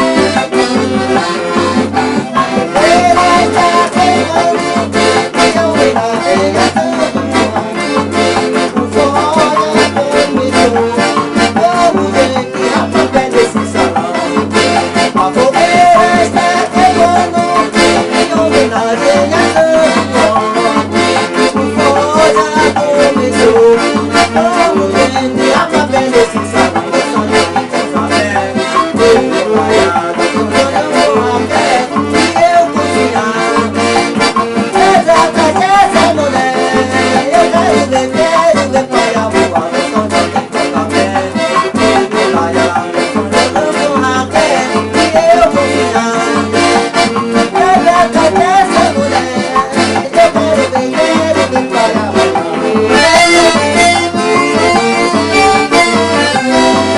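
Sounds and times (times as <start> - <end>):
accordion playing lively tune: 0.0 - 56.9
bright percussion: 0.0 - 56.9
steady bass beat: 0.0 - 56.9.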